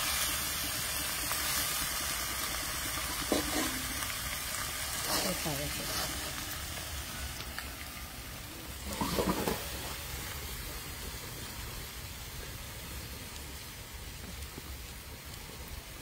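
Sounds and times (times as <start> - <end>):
meat frying in hot oil: 0.0 - 16.0.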